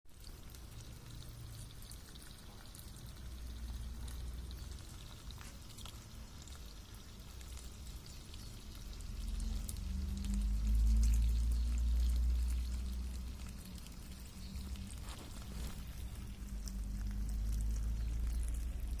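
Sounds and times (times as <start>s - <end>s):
water drips: 0.1s - 19.0s
water pouring: 0.1s - 19.0s.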